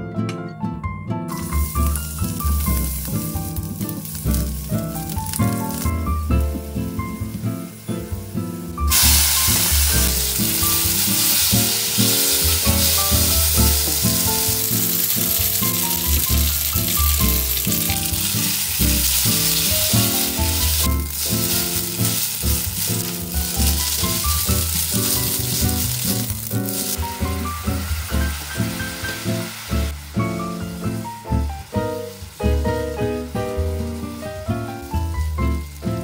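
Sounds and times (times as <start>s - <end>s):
background music: 0.0s - 36.0s
oil sizzling in a frying pan: 1.3s - 36.0s.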